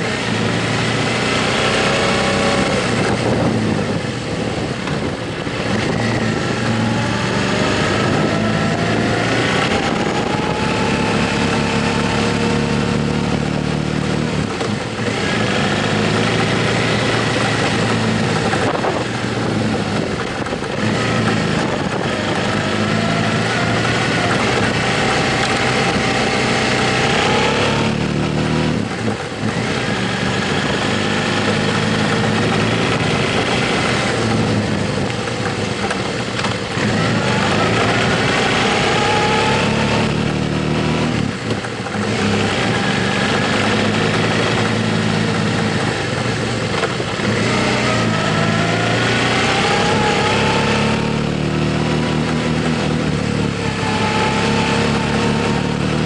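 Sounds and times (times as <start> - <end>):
motorcycle engine shifting gears: 0.0 - 56.0
wind and road noise: 0.0 - 56.0.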